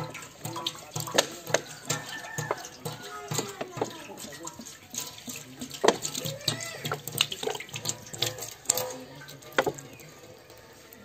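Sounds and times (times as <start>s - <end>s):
oil splattering in a metal pot: 0.0s - 11.0s.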